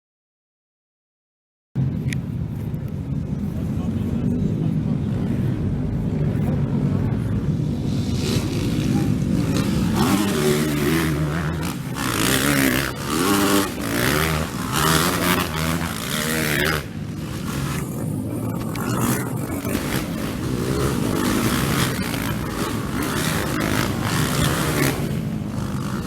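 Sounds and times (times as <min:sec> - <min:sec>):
racing motorcycles revving: 0:01.8 - 0:26.0.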